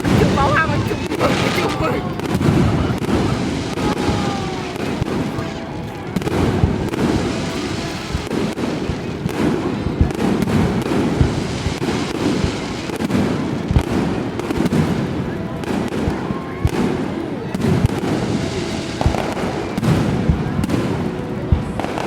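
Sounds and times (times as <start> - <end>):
fireworks booming and crackling: 0.0 - 22.0.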